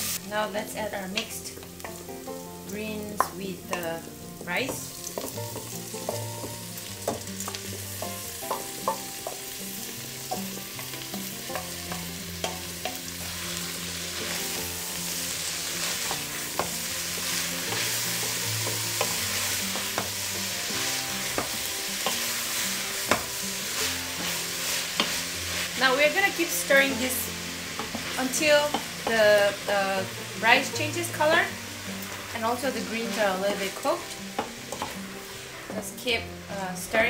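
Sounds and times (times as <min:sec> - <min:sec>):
food sizzling in oil: 0:00.0 - 0:37.0.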